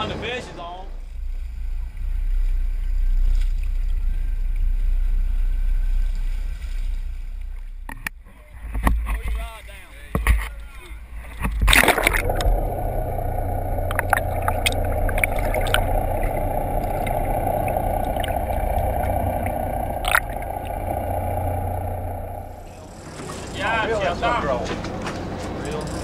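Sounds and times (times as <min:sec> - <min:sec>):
boat engines droning: 0:00.0 - 0:07.9, 0:10.6 - 0:26.0.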